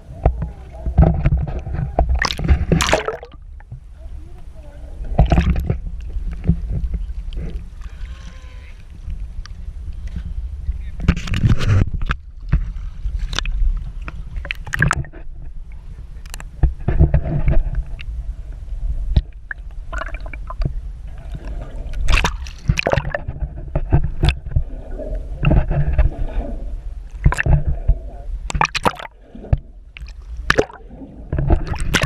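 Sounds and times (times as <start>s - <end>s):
constant low rumble: 0.0s - 32.0s
water sloshing and gurgling: 0.0s - 32.0s.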